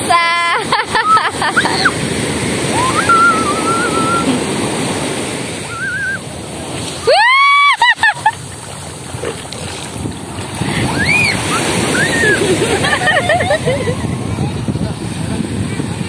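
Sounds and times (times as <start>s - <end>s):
sea surf washing on beach: 0.0s - 16.0s.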